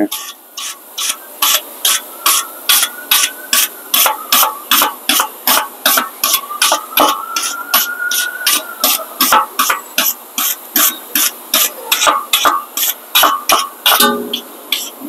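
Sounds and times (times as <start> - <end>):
wire brush scratching metal: 0.0 - 15.0.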